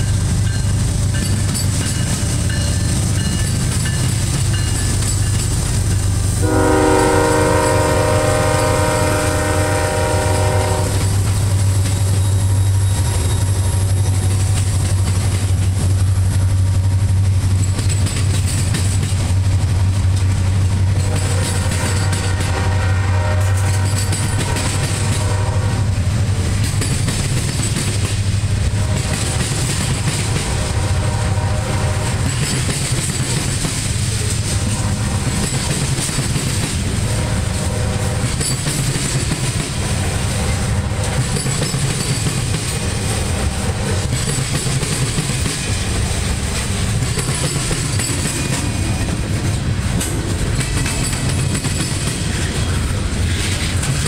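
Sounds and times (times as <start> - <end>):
freight train rumbling past: 0.0 - 54.0
wheel clatter over rail crossing: 0.0 - 54.0.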